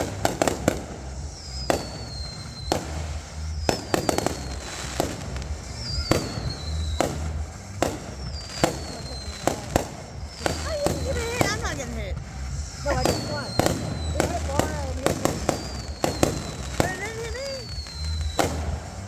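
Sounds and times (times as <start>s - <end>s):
fireworks bangs and crackling: 0.0s - 19.0s
fireworks whistles sliding down: 0.0s - 19.0s.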